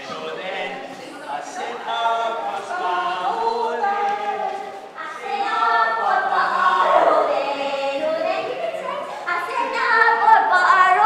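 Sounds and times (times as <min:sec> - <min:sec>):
unaccompanied choir singing: 0:00.0 - 0:11.0.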